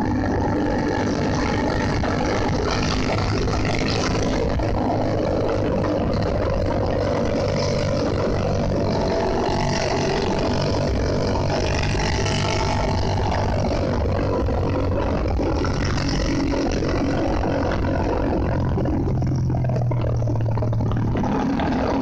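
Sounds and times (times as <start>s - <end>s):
motorcycle engine cruising: 0.0s - 22.0s
wind rushing on microphone: 0.0s - 22.0s.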